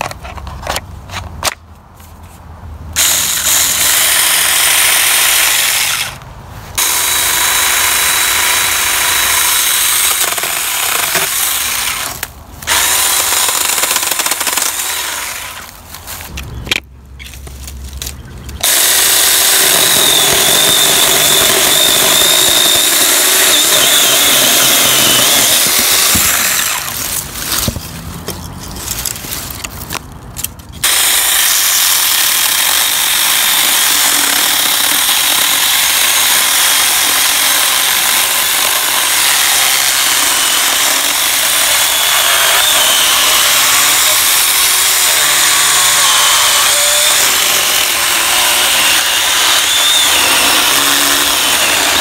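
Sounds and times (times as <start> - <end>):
chainsaw cutting wood: 3.0 - 6.2, 6.8 - 15.8, 18.6 - 27.8, 30.8 - 52.0.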